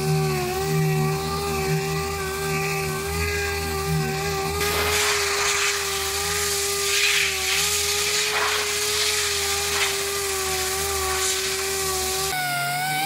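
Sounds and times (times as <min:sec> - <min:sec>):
air sander whining: 0:00.0 - 0:13.0
sanding pad hissing on paint: 0:00.0 - 0:13.0.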